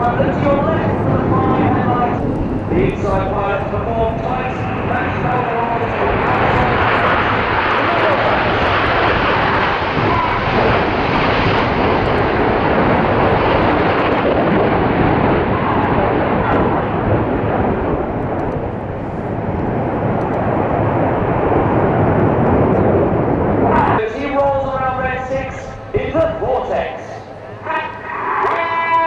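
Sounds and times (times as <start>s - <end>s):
jet engine noise: 0.0s - 29.0s.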